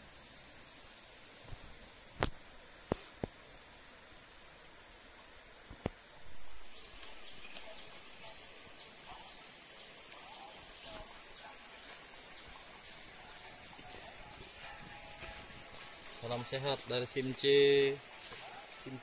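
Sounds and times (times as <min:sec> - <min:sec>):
insect chorus drone: 0:00.0 - 0:19.0.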